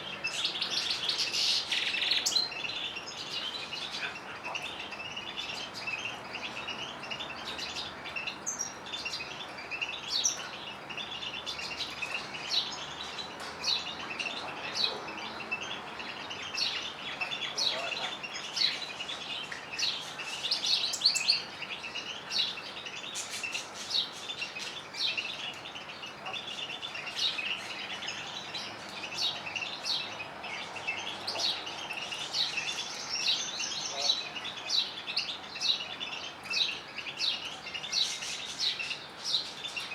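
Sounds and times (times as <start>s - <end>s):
finches chirping and trilling: 0.2s - 39.9s.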